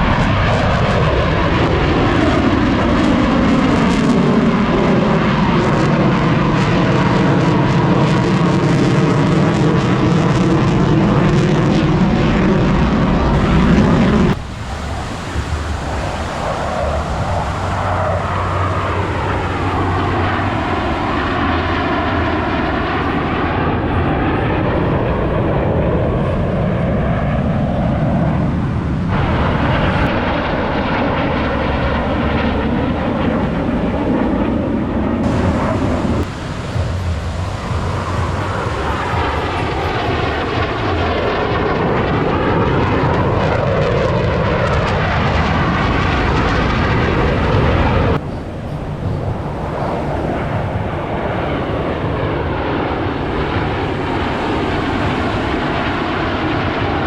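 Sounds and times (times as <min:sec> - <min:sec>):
fighter jets flying past: 0:00.0 - 0:57.0.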